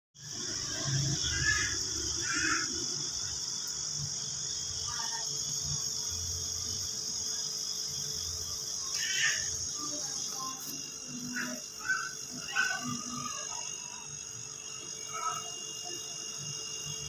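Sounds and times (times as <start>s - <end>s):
crickets trilling: 0.2s - 17.0s
short cricket chirps: 0.2s - 17.0s.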